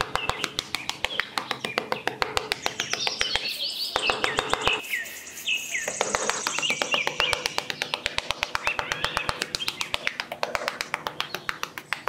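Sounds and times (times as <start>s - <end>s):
rapid even ticking: 0.0s - 4.8s, 5.8s - 12.0s
small birds chirping: 0.0s - 12.0s.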